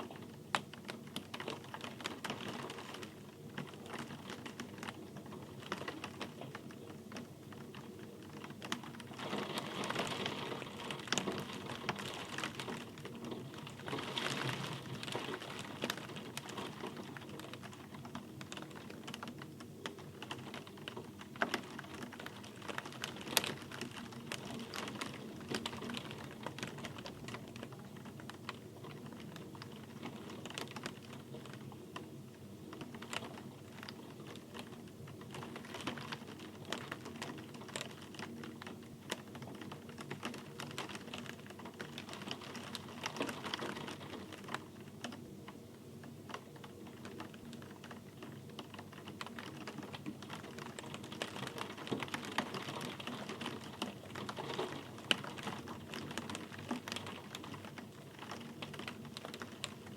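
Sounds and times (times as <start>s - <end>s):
rain drops ticking: 0.0s - 59.9s
rain patter: 0.0s - 59.9s.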